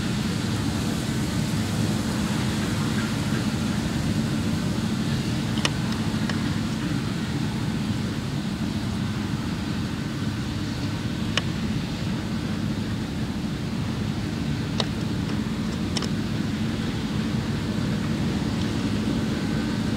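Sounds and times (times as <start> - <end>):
combine harvester droning: 0.0 - 19.9.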